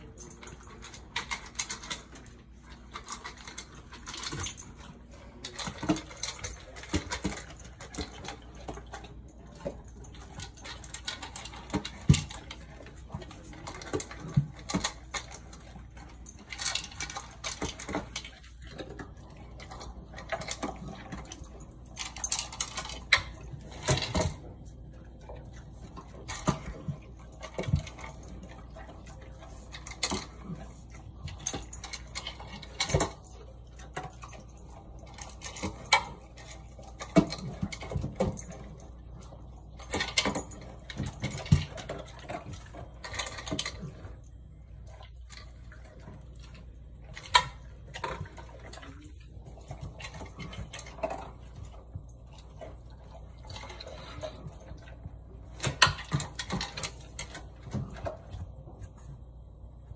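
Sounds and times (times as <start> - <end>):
dog crunching dry kibble: 0.0 - 59.2.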